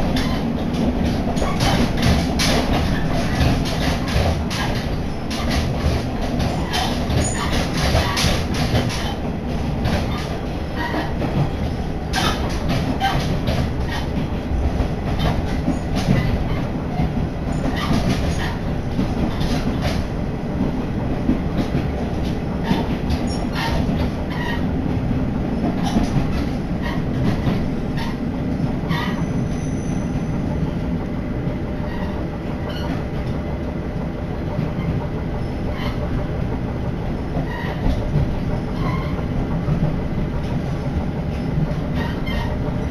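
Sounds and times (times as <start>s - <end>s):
wheels rumbling on rail: 0.0s - 42.9s.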